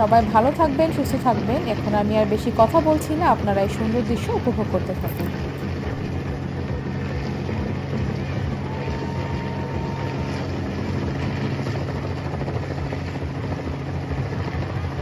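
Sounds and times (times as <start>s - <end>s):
helicopter rotor beat: 0.0s - 8.7s, 9.6s - 15.0s
helicopter engine drone: 0.0s - 15.0s.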